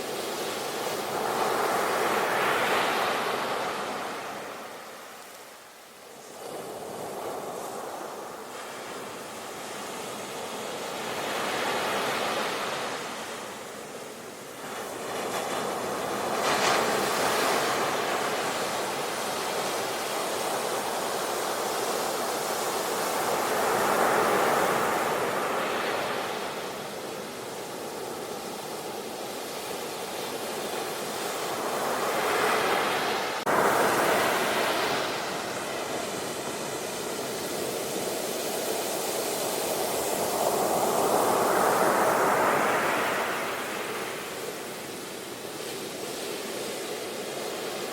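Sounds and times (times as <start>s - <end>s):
waves breaking on a shore: 0.0s - 47.9s.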